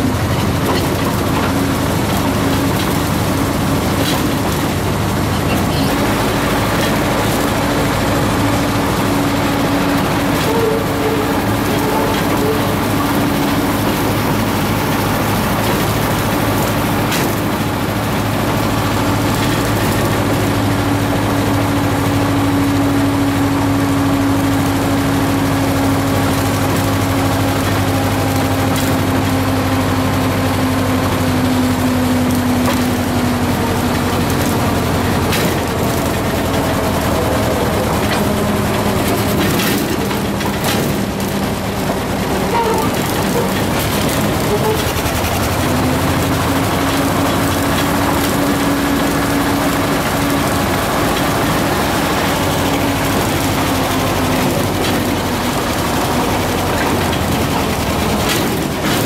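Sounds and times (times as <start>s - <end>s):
wheels clicking over rail joints: 0.0s - 22.7s, 24.3s - 59.0s
diesel engine drone: 0.0s - 59.0s
train wheel noise: 0.0s - 59.0s.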